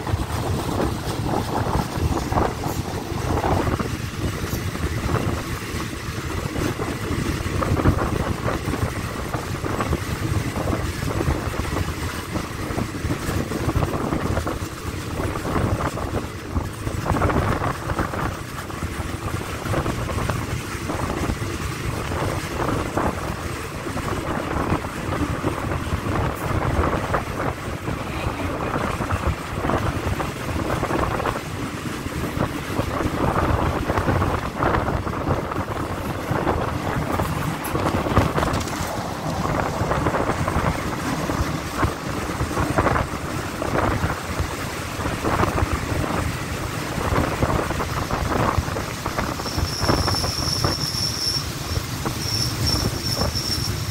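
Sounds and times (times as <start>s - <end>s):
train wheels rumbling on rail: 0.0s - 53.9s
wind rushing over microphone: 0.0s - 53.9s.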